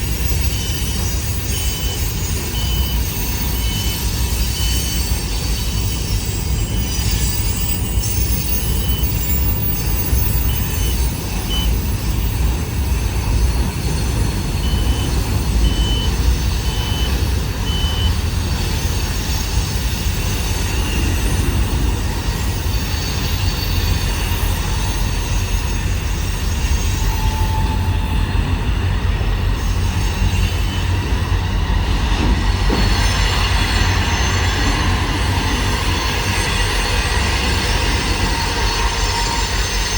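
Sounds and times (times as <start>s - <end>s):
high-pitched wheel squeals: 0.0s - 39.9s
train wheels rumbling on rail: 0.0s - 39.9s.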